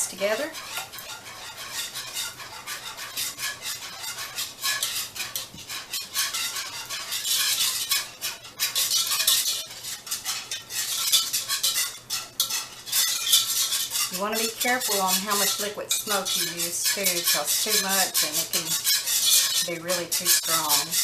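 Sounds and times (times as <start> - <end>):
whisk scraping and clinking in pan: 0.0 - 21.0.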